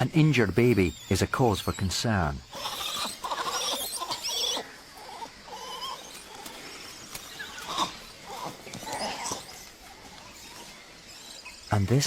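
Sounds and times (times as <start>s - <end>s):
monkeys calling: 0.0s - 12.0s.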